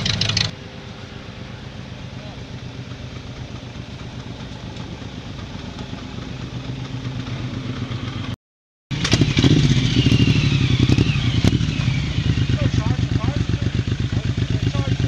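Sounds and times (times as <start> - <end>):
car engine idling: 0.0 - 15.0
louder engine: 0.0 - 15.0.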